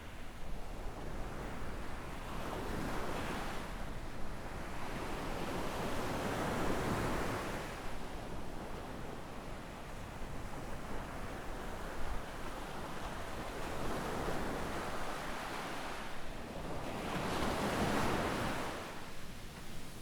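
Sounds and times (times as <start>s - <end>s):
small waves breaking on beach: 0.0s - 20.0s.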